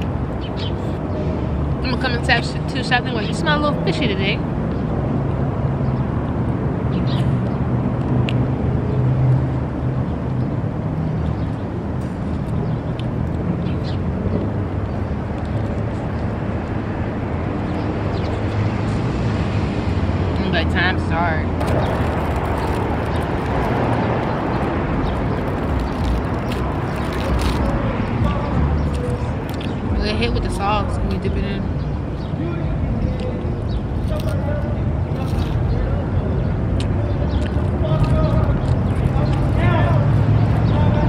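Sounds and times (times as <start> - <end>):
low rumble of traffic: 0.0 - 41.0.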